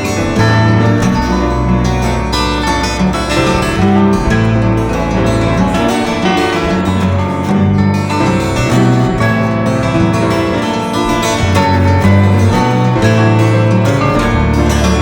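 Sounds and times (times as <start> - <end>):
bass line: 0.0 - 15.0
plucked acoustic guitar: 0.0 - 15.0.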